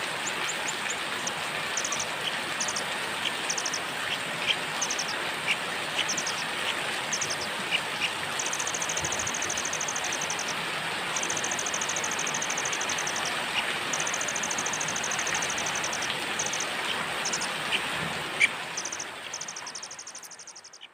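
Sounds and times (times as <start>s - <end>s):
steady rain: 0.0s - 20.1s.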